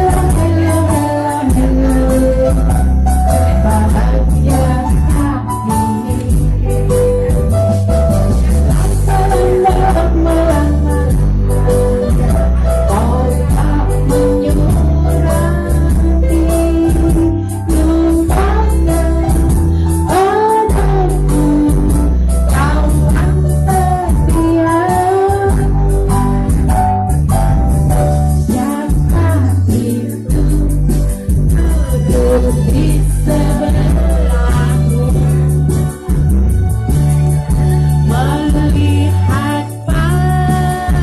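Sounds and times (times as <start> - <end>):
woman singing into microphone: 0.0 - 7.0, 8.6 - 26.7, 28.1 - 36.2, 37.8 - 41.0
karaoke backing track: 0.0 - 41.0.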